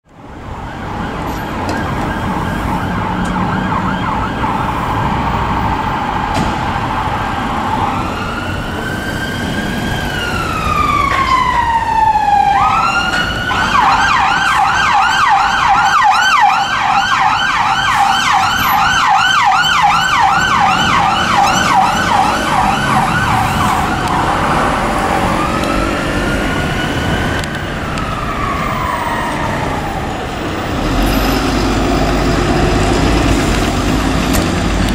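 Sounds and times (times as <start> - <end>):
engine and road noise: 0.0 - 34.9
fire engine siren: 0.0 - 34.9.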